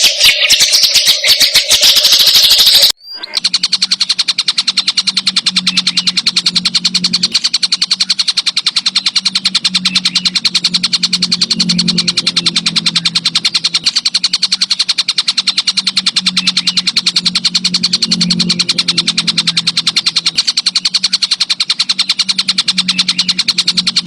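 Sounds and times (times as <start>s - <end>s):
insect stridulation: 0.0s - 24.0s
low hum: 2.7s - 24.0s.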